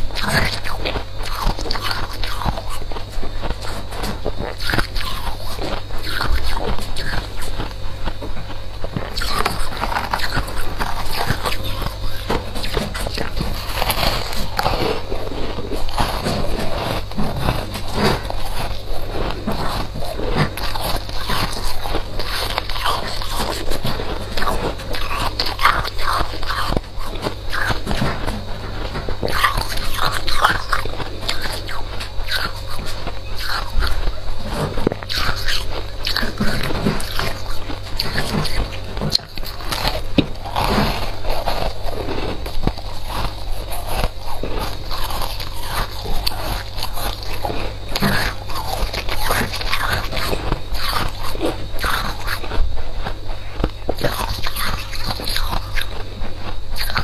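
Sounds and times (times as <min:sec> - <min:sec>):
frost being bitten and chewed: 0:00.0 - 0:57.0.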